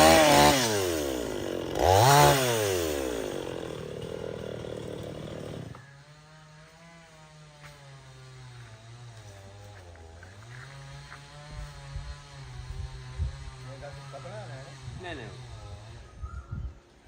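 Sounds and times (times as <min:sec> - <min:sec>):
chainsaw revving: 0:00.0 - 0:16.1.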